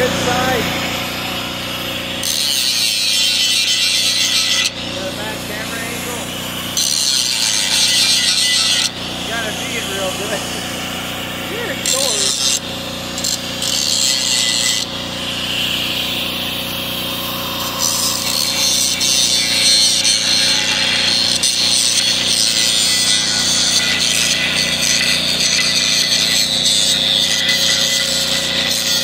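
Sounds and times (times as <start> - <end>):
angle grinder grinding steel: 0.0 - 29.0.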